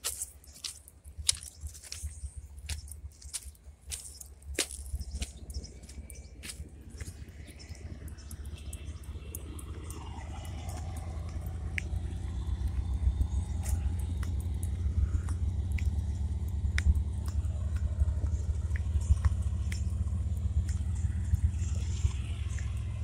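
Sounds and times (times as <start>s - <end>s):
small clicks: 0.0s - 23.0s
vehicle cabin road and wind noise: 0.0s - 23.0s.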